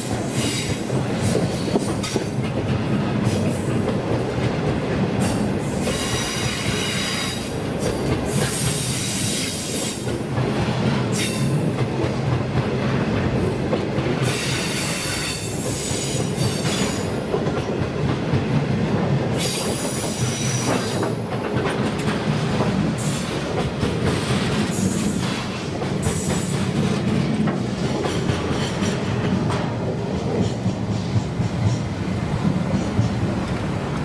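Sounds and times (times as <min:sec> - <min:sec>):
steel wheels rumbling on rail: 0:00.0 - 0:34.0.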